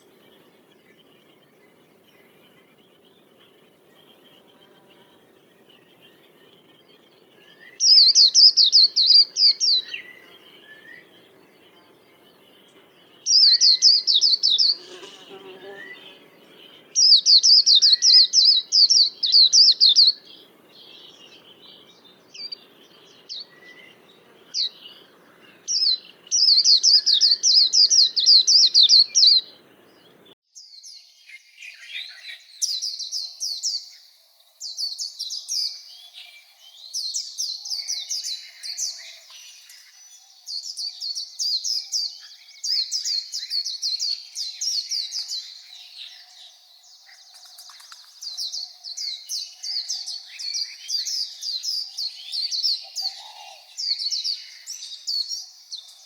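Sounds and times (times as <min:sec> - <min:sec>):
bird twittering song: 0:00.0 - 0:56.0
soft bird chirps: 0:00.0 - 0:56.0.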